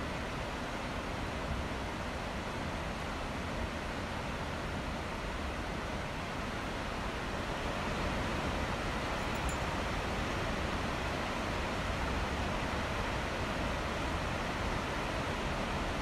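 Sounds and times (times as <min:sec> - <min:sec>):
waterfall rushing with low rumble: 0:00.0 - 0:16.0.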